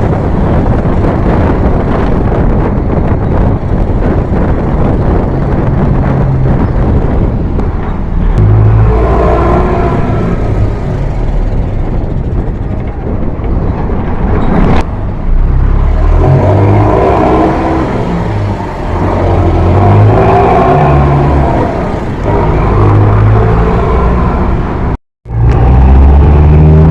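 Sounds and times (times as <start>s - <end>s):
bus diesel engine accelerating: 0.0s - 26.9s.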